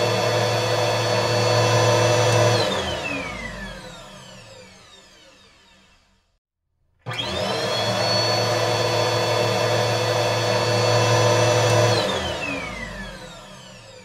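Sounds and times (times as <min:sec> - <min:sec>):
vacuum cleaner motor whine: 0:00.0 - 0:06.2, 0:07.1 - 0:14.0.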